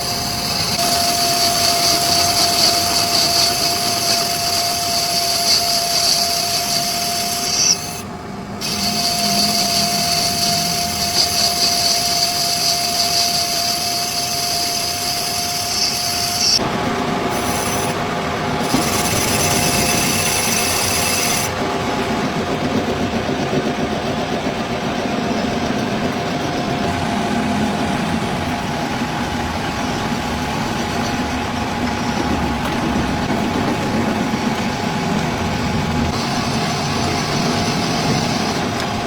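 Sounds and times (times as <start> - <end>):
power tool running: 0.0 - 39.0.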